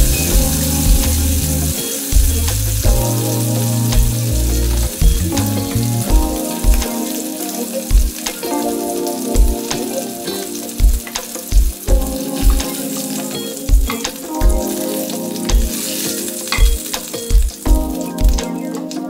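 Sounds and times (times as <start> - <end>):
chicken sizzling in oil: 0.0 - 18.6
background music with beat: 0.0 - 19.0.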